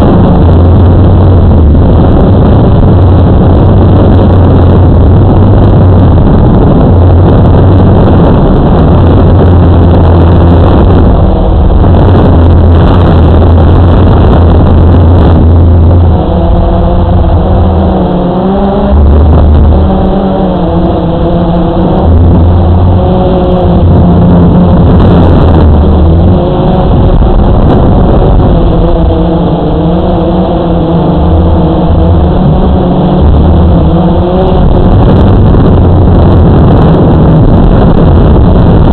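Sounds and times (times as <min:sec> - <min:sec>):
drone motors and propellers: 0:00.0 - 0:38.9
rushing air: 0:00.0 - 0:38.9
whining motor tones: 0:00.0 - 0:38.9.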